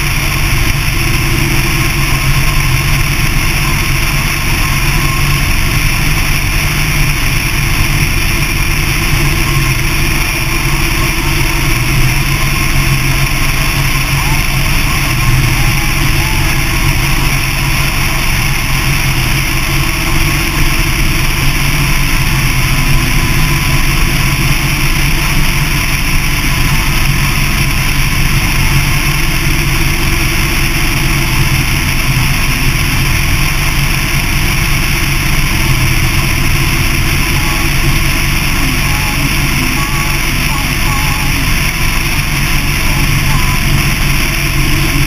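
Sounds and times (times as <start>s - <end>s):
motorcycle engine drone: 0.0s - 45.0s.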